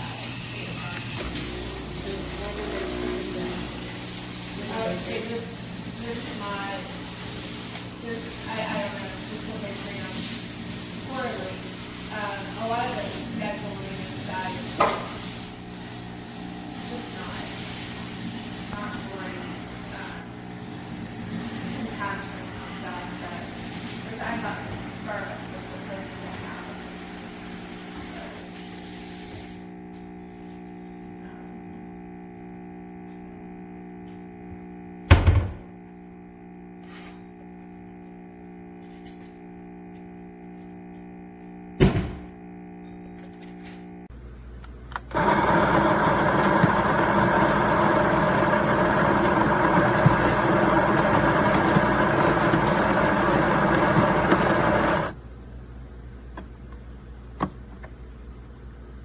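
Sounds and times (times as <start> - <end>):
coffee grinder motor running: 0.0 - 29.0, 29.6 - 44.1, 44.9 - 55.2.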